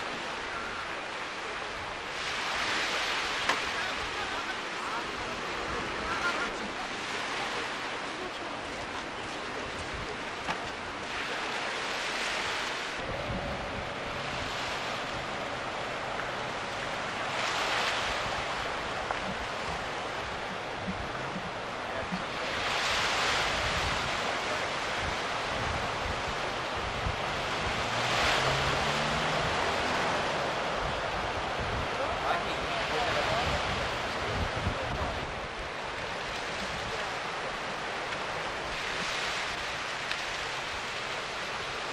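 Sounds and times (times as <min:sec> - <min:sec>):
waves breaking and washing in: 0:00.0 - 0:41.9.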